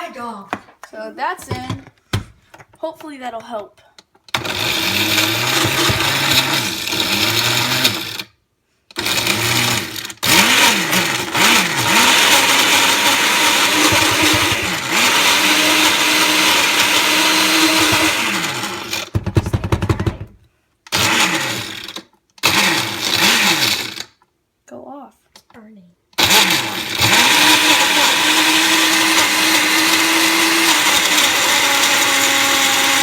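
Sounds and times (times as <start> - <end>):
blender motor churning: 4.3 - 24.2, 26.2 - 33.0.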